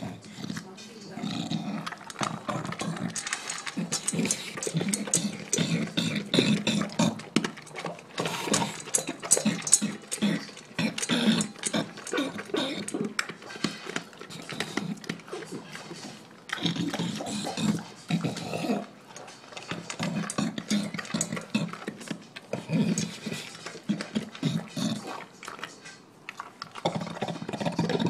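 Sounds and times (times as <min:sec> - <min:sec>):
dog chomping and gulping food: 0:00.0 - 0:28.0.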